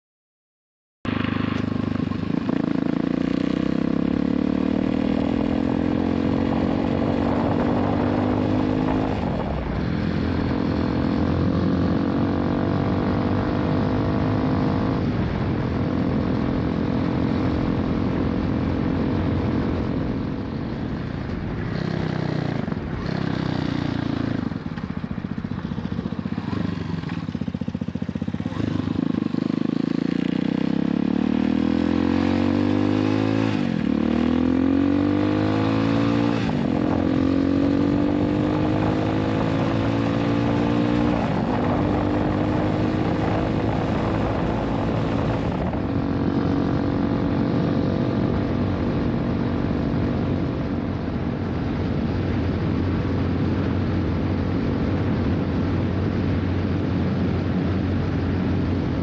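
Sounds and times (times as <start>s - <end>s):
motorcycle engine shifting gears: 1.1s - 51.2s.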